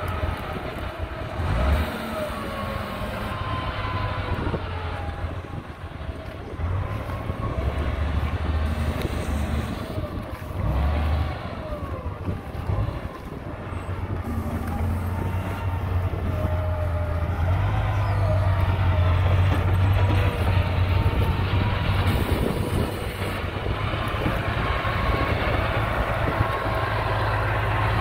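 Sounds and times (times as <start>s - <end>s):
grader diesel engine rumbling: 0.0s - 28.0s.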